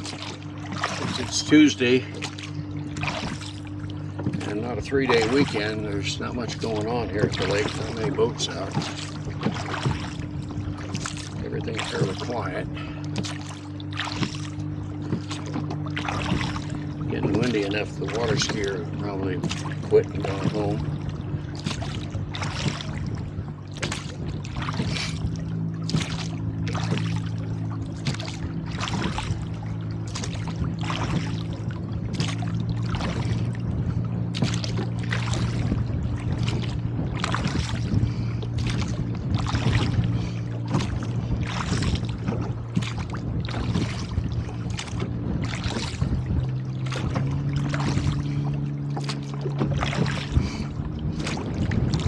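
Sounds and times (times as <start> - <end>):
low hum: 0.0 - 52.0
oars splashing water: 0.0 - 52.0.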